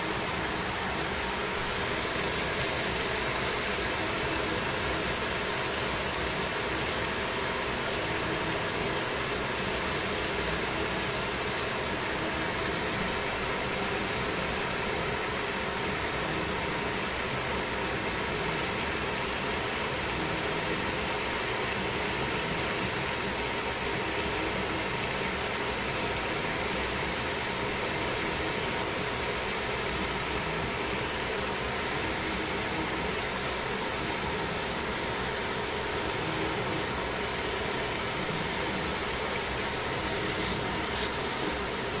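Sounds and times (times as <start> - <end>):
food sizzling in a pan: 0.0 - 42.0.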